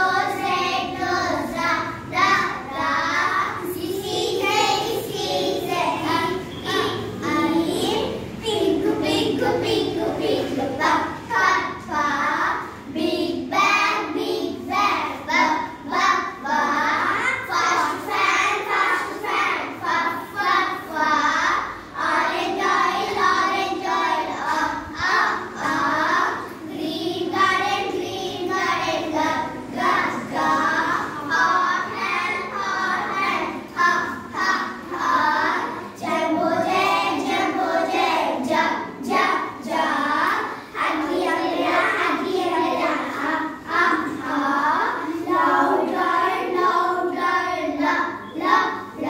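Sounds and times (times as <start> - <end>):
girls singing in unison: 0.0 - 49.0.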